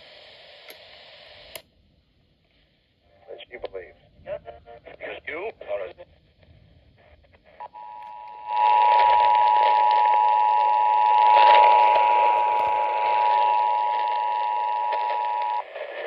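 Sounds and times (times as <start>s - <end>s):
radio static hiss: 0.0s - 1.6s, 2.5s - 16.0s.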